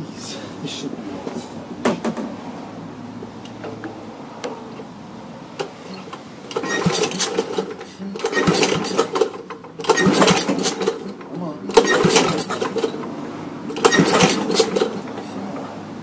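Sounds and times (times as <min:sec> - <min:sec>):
single-cylinder engine running: 0:00.8 - 0:16.0.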